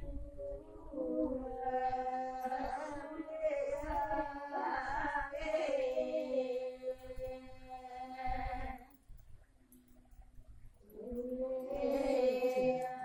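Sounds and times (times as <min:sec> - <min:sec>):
women singing folk song: 0:00.0 - 0:09.0, 0:10.8 - 0:13.0.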